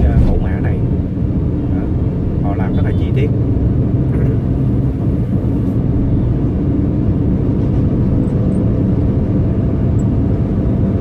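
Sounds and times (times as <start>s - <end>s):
car road and engine rumble: 0.0s - 11.0s
diesel truck running alongside: 0.0s - 11.0s.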